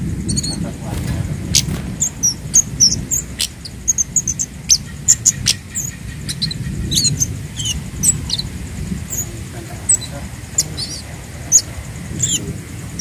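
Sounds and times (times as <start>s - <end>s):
low background rumble: 0.0s - 13.0s
bird calling with high thin chips: 0.2s - 13.0s.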